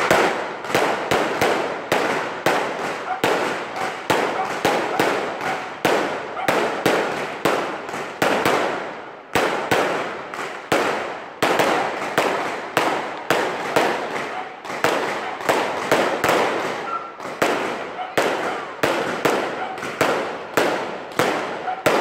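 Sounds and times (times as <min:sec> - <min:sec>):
fireworks bursting with echo: 0:00.0 - 0:22.0.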